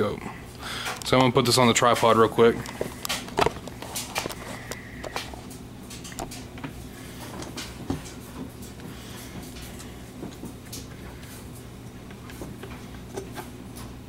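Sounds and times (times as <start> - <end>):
clicks and knocks of handling: 0.8 - 14.0.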